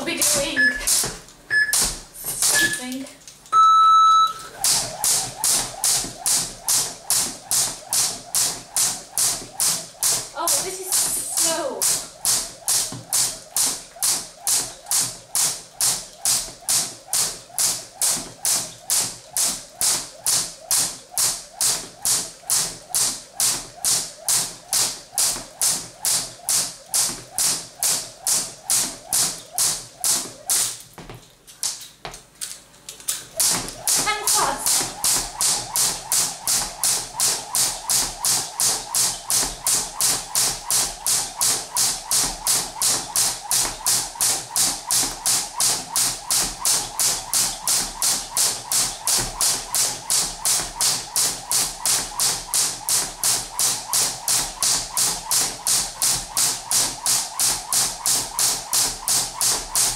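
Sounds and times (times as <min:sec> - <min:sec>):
jump rope slapping the floor: 0:00.0 - 0:03.5, 0:04.5 - 0:32.3, 0:33.2 - 0:59.9.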